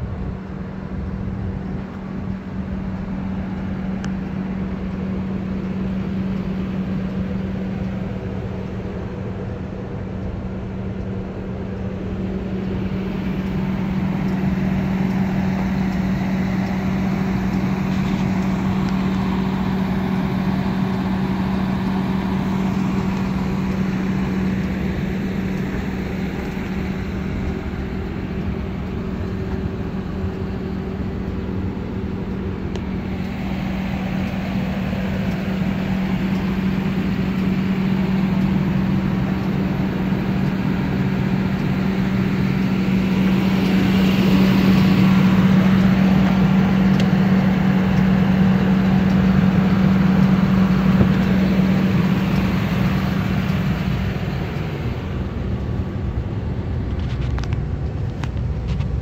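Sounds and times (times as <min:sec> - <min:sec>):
engine idling: 0:00.0 - 0:59.0
broad rushing noise: 0:11.5 - 0:59.0.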